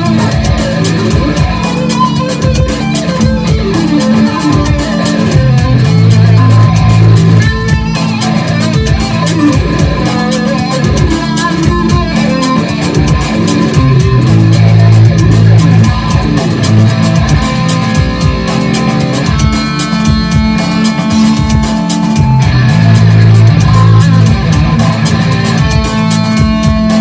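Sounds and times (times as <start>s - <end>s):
backing track with steady beat: 0.0s - 27.0s
electric guitar with effects: 0.0s - 27.0s.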